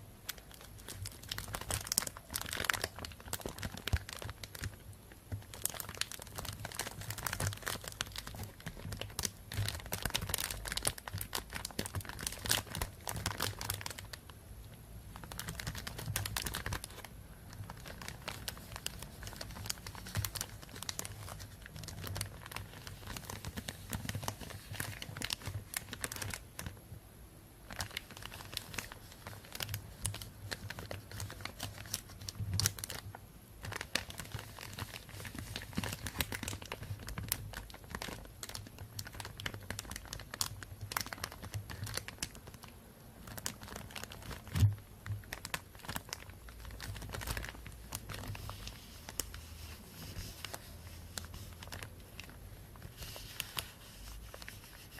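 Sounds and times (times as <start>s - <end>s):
plastic bag crinkling: 0.0s - 14.3s, 15.1s - 26.8s, 27.6s - 54.9s.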